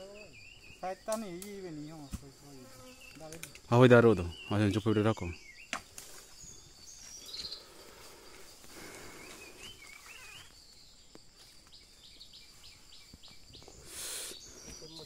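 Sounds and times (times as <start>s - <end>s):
faint outdoor ambience: 0.0s - 15.0s
small bird chirps: 2.8s - 15.0s.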